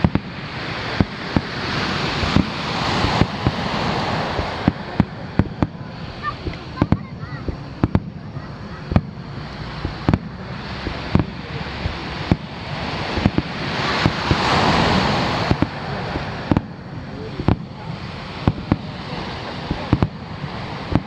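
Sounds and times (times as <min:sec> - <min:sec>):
firework shells booming: 0:00.0 - 0:21.0
surf breaking on beach: 0:00.0 - 0:21.0.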